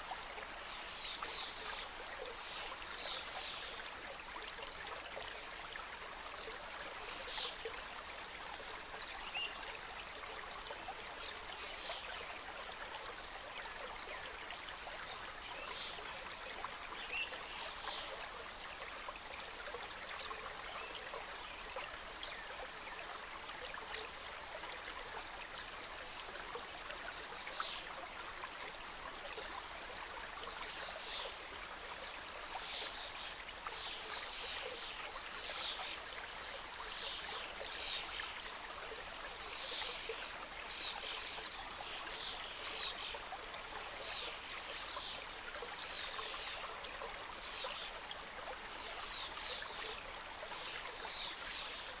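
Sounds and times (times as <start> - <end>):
stream flowing over stones: 0.0 - 52.0.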